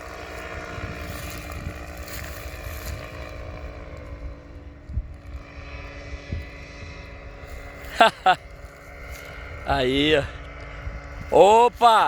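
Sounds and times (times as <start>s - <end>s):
wind rumbling on microphone: 0.0s - 11.8s
propeller engine running: 0.0s - 12.0s.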